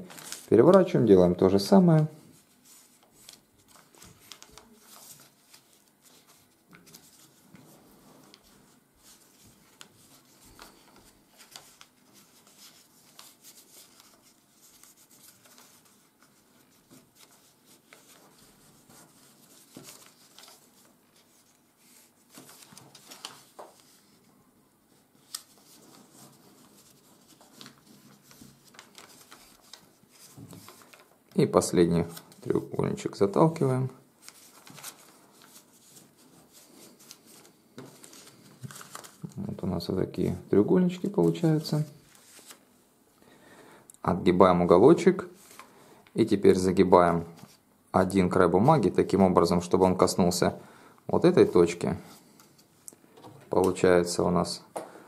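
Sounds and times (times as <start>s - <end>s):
paper rustling and crinkling: 0.0s - 24.3s, 24.9s - 42.7s, 45.1s - 47.6s.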